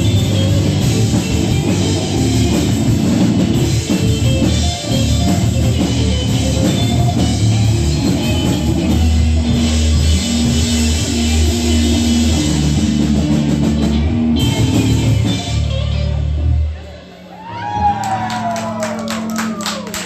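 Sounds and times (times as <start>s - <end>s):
live band playing loud rock: 0.0s - 20.0s.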